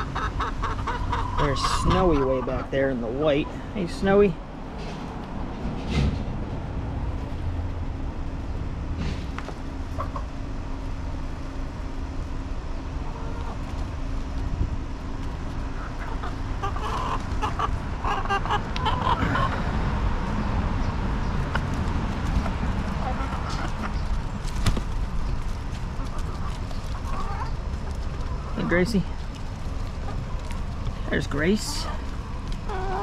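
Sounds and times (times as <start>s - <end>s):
chickens clucking: 0.0s - 7.5s, 8.5s - 33.0s
low steady rumble: 0.0s - 33.0s.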